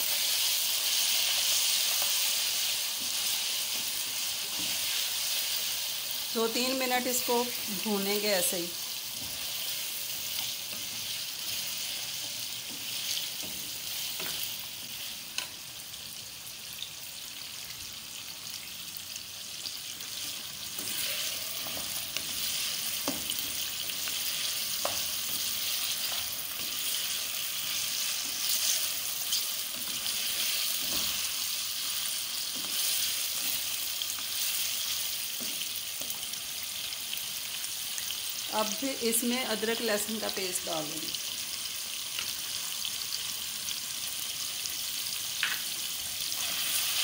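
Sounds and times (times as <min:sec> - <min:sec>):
meat sizzling in oil: 0:00.0 - 0:47.0.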